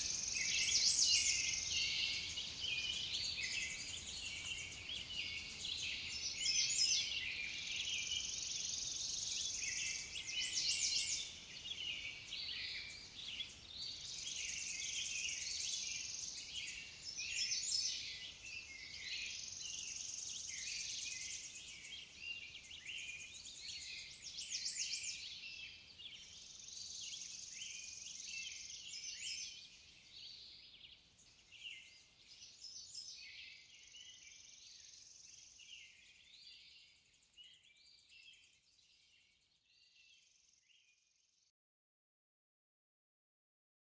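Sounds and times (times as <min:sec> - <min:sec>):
small birds chirping and trilling: 0:00.0 - 0:41.5.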